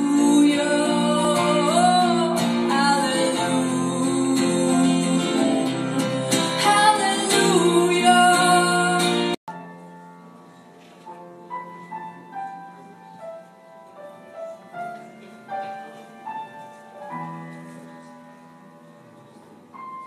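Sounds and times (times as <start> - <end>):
soft slow piano melody: 0.0 - 20.0.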